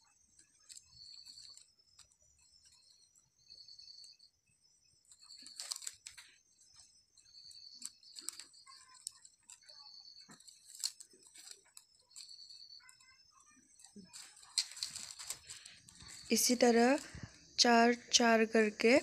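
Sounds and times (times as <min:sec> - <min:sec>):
plastic wire rustling and clicking: 0:00.0 - 0:03.1, 0:05.0 - 0:17.4.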